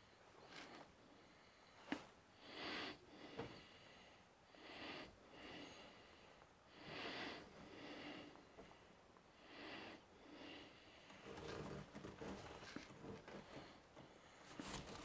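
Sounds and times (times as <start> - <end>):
slow breathing: 0.0 - 15.0.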